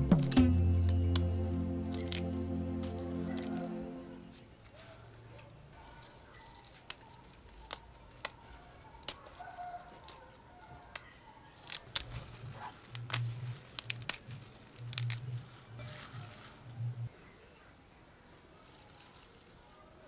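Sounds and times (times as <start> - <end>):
lettuce leaves rustling and crackling: 1.1 - 5.1, 5.8 - 17.1, 18.4 - 20.0.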